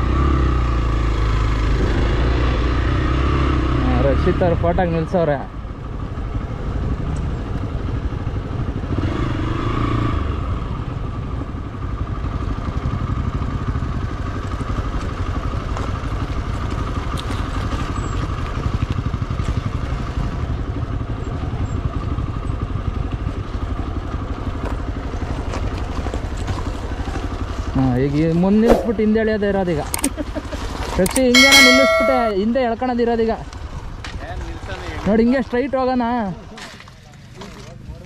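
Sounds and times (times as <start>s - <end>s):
motorcycle engine running: 0.0s - 35.1s.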